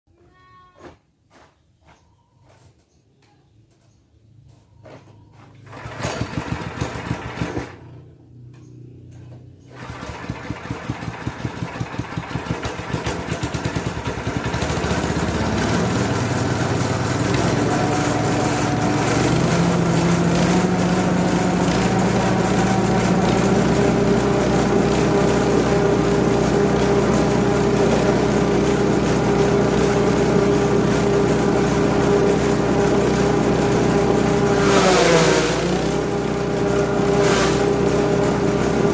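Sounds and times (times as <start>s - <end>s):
small petrol engine starting: 5.4s - 38.9s.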